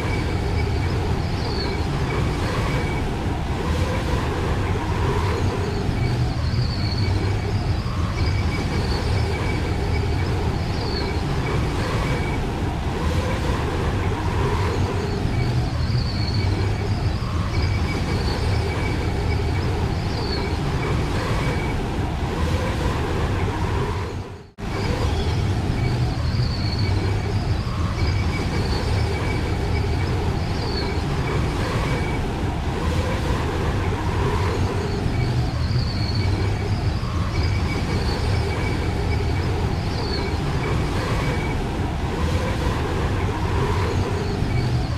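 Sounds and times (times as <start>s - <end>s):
blizzard wind rumbling: 0.0s - 44.9s.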